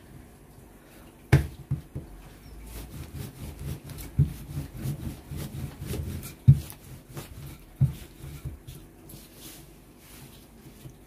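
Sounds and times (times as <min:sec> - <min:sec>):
rolling pin on dough: 0:01.3 - 0:11.0.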